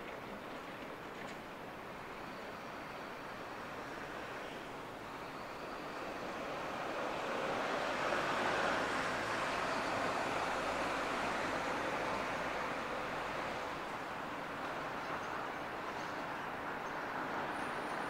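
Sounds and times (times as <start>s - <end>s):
electric train rumbling: 1.2s - 18.0s.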